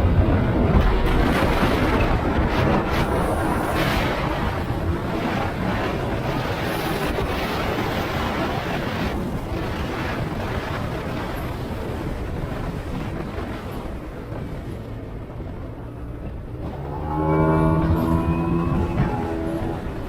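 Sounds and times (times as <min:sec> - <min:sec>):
road noise: 0:00.0 - 0:10.0, 0:13.5 - 0:20.0
wind roaring over microphone: 0:00.0 - 0:20.0.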